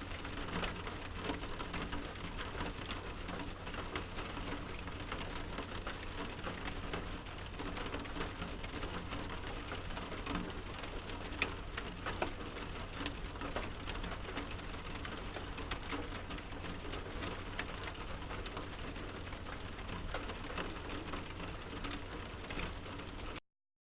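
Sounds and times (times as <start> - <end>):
rain pattering on a window: 0.0 - 23.4.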